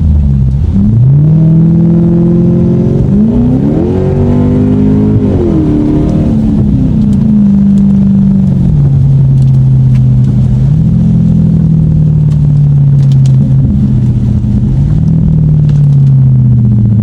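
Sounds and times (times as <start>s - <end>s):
car engine and exhaust revving: 0.0s - 17.0s.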